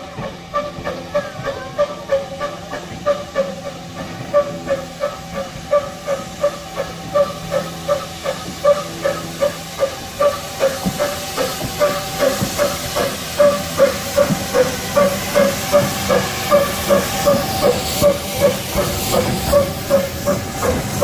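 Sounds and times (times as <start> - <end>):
steam hissing: 0.0 - 21.0
steam locomotive chuffing: 0.0 - 21.0.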